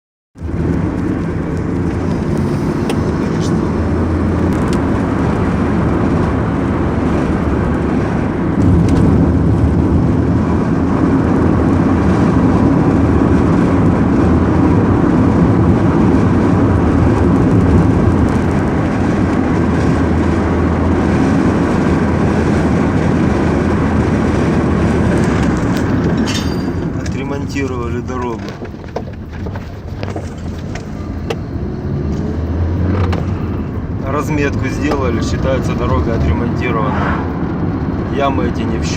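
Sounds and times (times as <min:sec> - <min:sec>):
car engine and tyres rumbling: 0:00.4 - 0:38.9.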